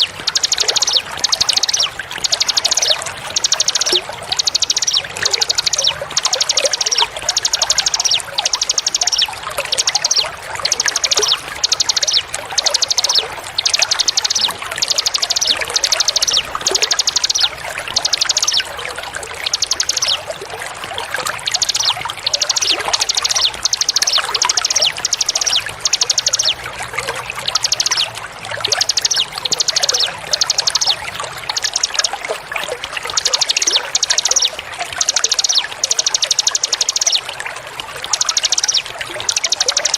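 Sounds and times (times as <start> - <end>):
running water: 0.0 - 39.9
songbird trilling: 0.0 - 39.9.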